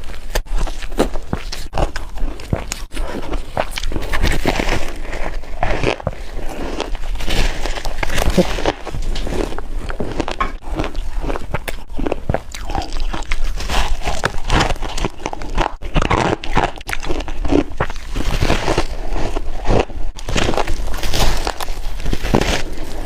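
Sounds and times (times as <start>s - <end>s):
person crunching ice: 0.0s - 23.0s.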